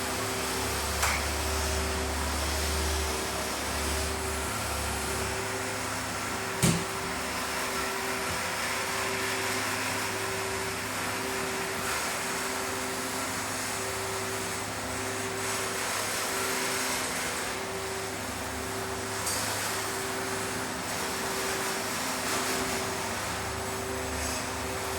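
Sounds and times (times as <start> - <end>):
machine hum and fan noise: 0.0 - 24.9.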